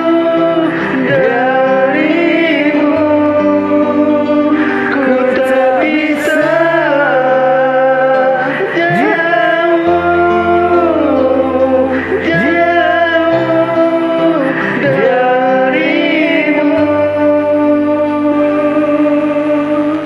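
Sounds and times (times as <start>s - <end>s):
karaoke backing track: 0.0s - 20.0s
person singing with vibrato: 0.0s - 20.0s.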